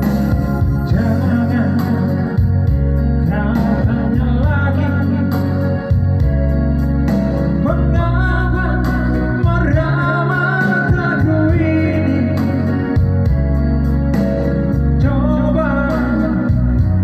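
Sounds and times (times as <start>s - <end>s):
song with sung vocals: 0.0s - 17.0s
steady beat: 0.0s - 17.0s
sustained keyboard and bass: 0.0s - 17.0s.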